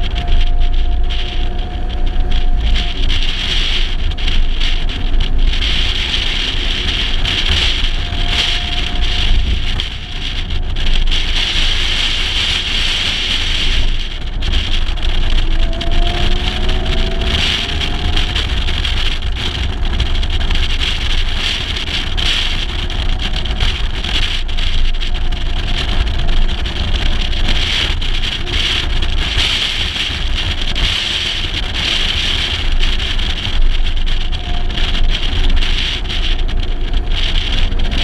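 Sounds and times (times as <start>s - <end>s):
car engine running: 0.0s - 38.0s
wind and road noise: 0.0s - 38.0s.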